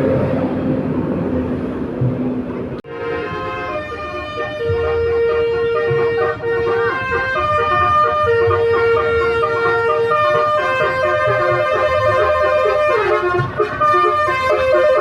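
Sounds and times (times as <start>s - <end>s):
low engine rumble: 0.0s - 15.0s
bus horn playing a tune: 2.8s - 15.0s.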